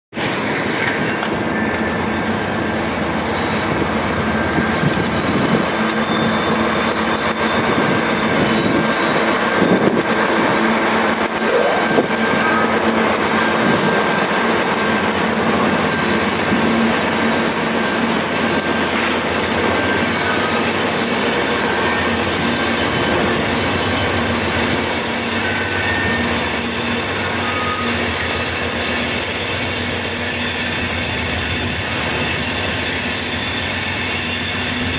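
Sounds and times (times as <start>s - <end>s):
diesel locomotives running: 0.2s - 34.9s
wheels squealing: 0.5s - 34.9s
wheels clacking over rails: 0.8s - 34.9s.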